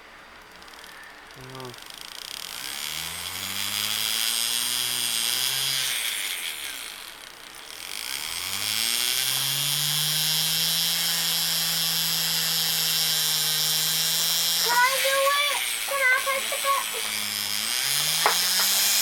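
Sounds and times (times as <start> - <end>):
electric rotary tool motor: 1.7 - 19.0.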